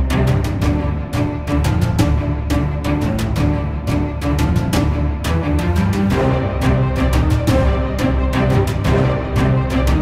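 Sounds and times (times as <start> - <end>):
background music with drums and bass: 0.0 - 10.0.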